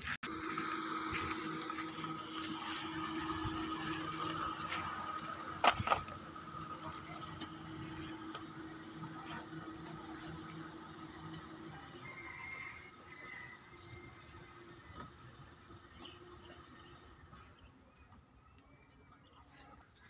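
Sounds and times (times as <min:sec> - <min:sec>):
mechanical hum with whine: 0:00.0 - 0:20.0.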